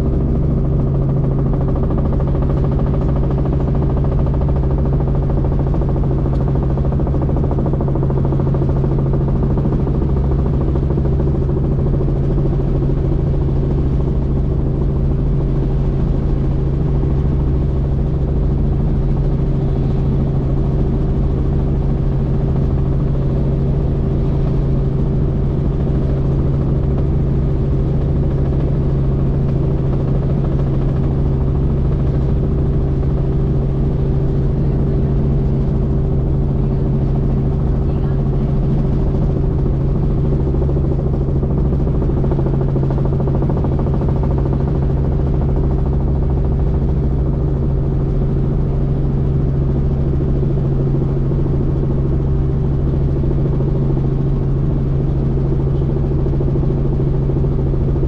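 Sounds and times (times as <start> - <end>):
helicopter in flight: 0.0 - 58.0.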